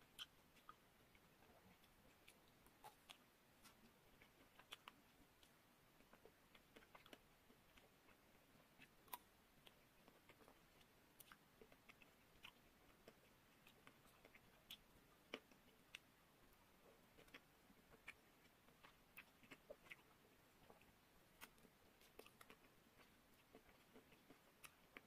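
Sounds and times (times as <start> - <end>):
chewing and biting: 0.0 - 16.1, 16.7 - 25.0.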